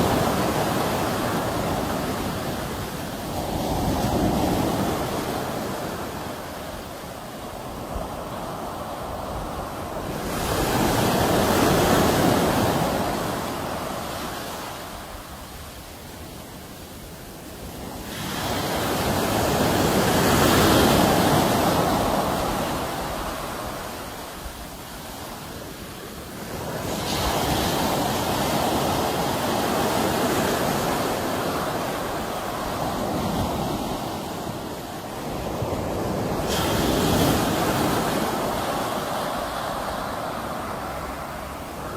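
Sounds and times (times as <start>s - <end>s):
sea waves breaking: 0.0s - 41.9s.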